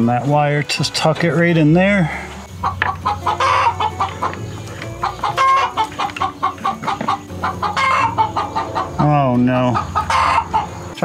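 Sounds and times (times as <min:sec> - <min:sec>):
hens clucking: 0:00.2 - 0:11.0.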